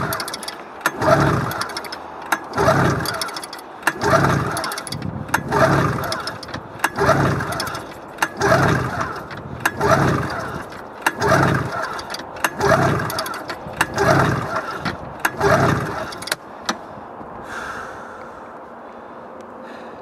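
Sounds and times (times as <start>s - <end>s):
snowmobile pull-cord cranking engine: 0.0s - 16.8s.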